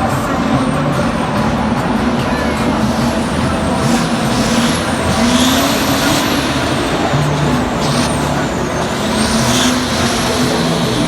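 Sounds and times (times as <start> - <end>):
steady loud hiss: 0.0 - 11.0
thin high whine: 0.0 - 11.0
truck motor running hard: 0.0 - 11.0.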